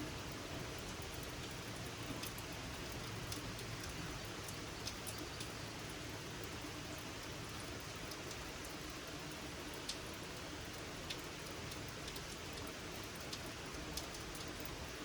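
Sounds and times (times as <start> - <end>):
rain falling: 0.0 - 15.0
raindrops ticking: 0.1 - 15.0.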